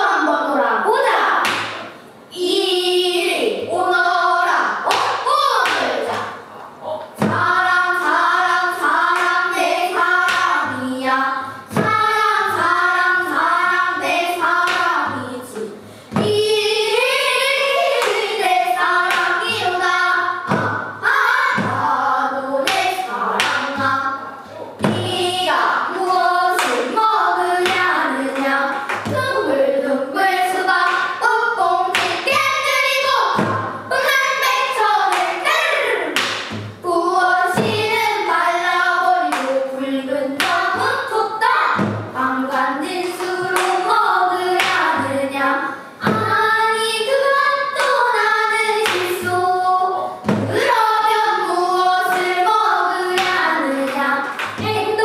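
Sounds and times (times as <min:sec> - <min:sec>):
children singing together: 0:00.0 - 0:55.0
low thumps marking the beat: 0:06.1 - 0:29.6, 0:30.4 - 0:34.0, 0:36.0 - 0:55.0.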